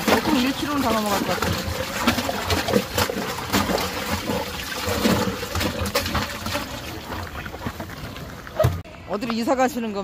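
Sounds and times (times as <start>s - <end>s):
water splashing and trickling: 0.0s - 8.9s.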